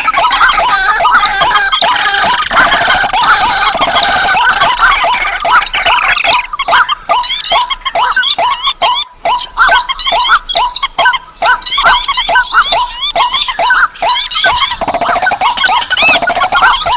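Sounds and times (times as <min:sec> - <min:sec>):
rapid rising bird calls: 0:00.0 - 0:16.9.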